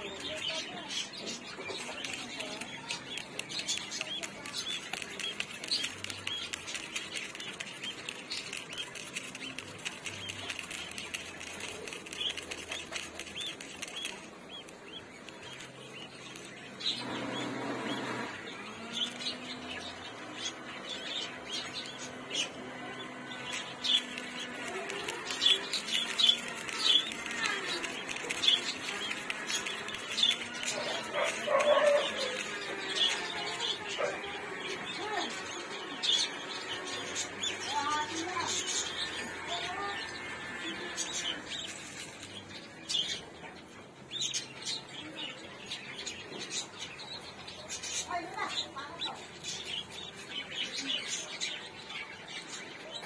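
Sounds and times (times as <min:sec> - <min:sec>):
chicks peeping: 0:00.0 - 0:53.0.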